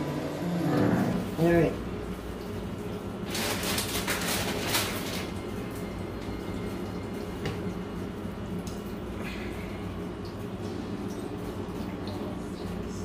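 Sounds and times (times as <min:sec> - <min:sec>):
water running from a tap: 0:00.0 - 0:13.0.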